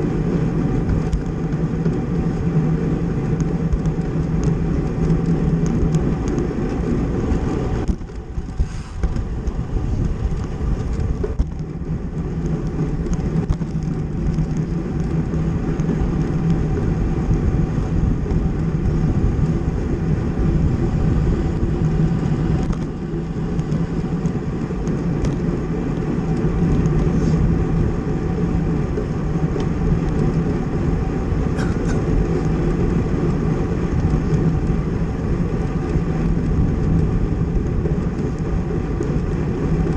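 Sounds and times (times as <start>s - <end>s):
bicycle tyre rumble on road: 0.0s - 39.9s
wind over microphone: 0.0s - 39.9s.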